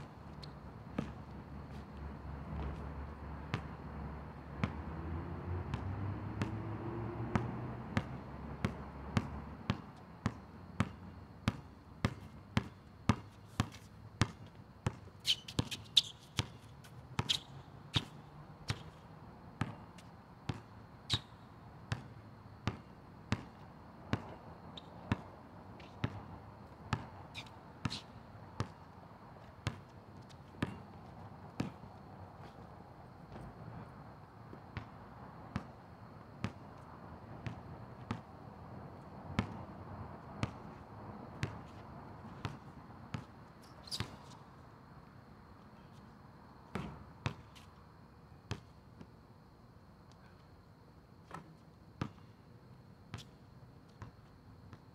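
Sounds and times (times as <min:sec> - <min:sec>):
basketball bouncing on asphalt: 0:00.0 - 0:45.0, 0:46.5 - 0:47.8, 0:48.4 - 0:49.2, 0:51.2 - 0:54.9.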